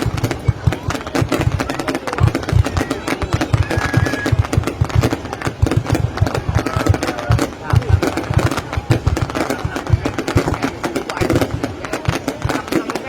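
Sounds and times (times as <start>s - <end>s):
deep firework thumps: 0.0s - 13.0s
fireworks bangs and crackles: 0.0s - 13.0s.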